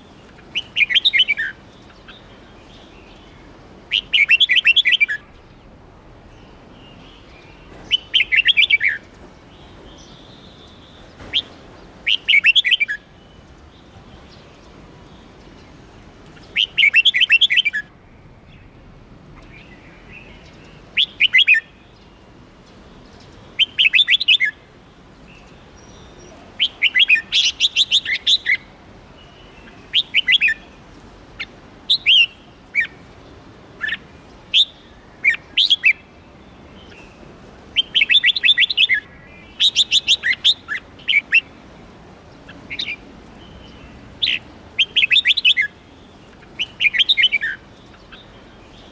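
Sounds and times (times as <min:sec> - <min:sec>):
songbird chirping: 0:00.0 - 0:48.9.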